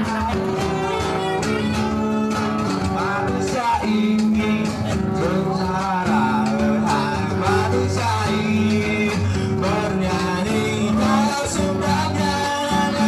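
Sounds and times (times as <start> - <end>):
live band with acoustic guitar: 0.0 - 13.0.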